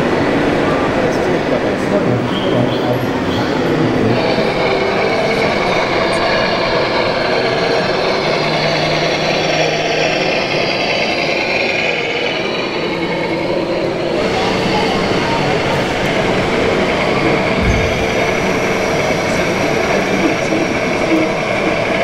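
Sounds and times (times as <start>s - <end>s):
busy hall crowd din: 0.0s - 22.0s
model trucks droning: 3.0s - 22.0s.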